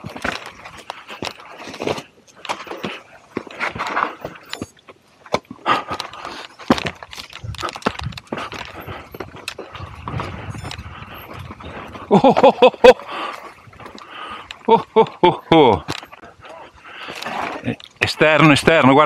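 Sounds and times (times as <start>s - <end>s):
bike rattling and knocking: 0.0s - 16.3s
bike tyres rolling on dirt: 0.0s - 19.0s.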